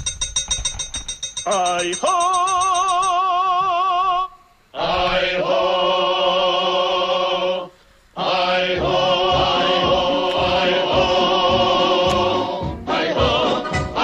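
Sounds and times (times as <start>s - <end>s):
choir-like held chords: 1.5s - 14.0s.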